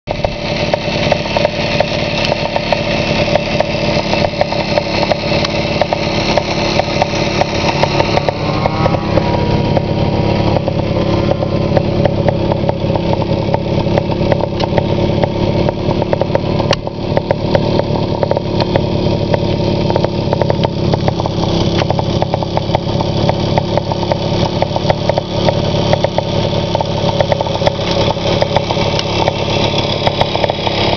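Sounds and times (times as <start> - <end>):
snowmobile two-stroke engine: 0.0 - 30.9.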